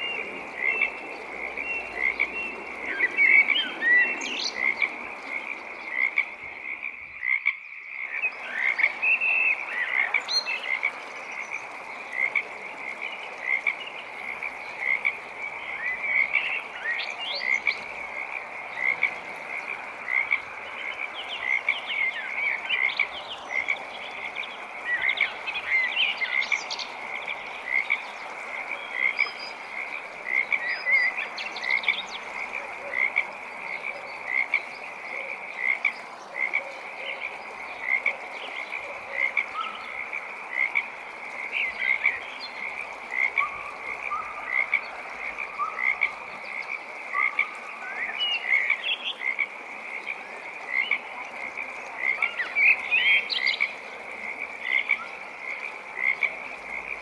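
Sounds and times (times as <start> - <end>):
frogs croaking: 0.0 - 57.0.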